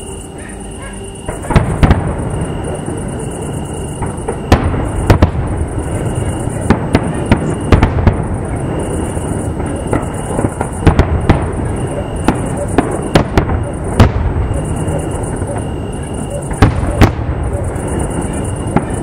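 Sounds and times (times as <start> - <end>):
fireworks bursting: 0.0 - 19.0
steady background noise: 0.0 - 19.0.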